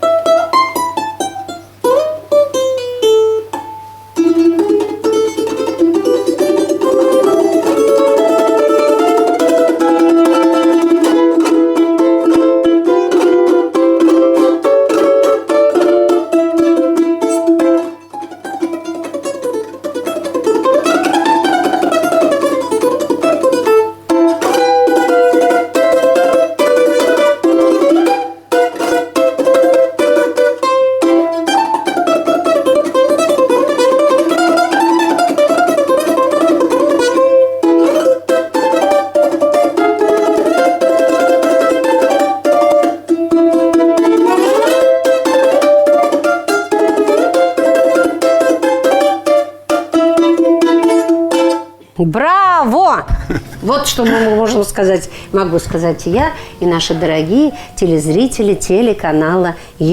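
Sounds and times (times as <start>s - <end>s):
balalaika folk tune: 0.0s - 52.0s, 53.0s - 59.8s.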